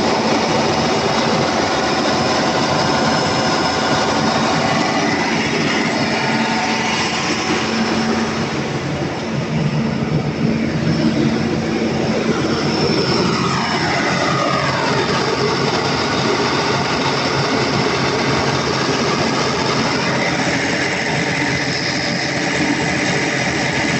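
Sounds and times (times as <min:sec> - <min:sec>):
diesel generator engine running: 0:00.0 - 0:23.9
falling whine: 0:00.0 - 0:23.9
steady hum: 0:00.0 - 0:23.9.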